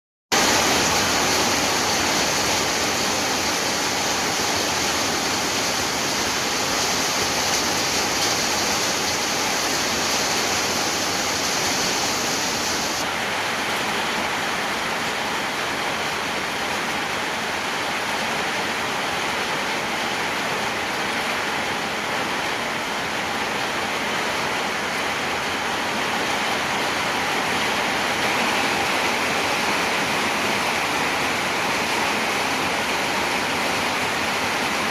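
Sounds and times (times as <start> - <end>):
heavy rain pouring: 0.3 - 34.9.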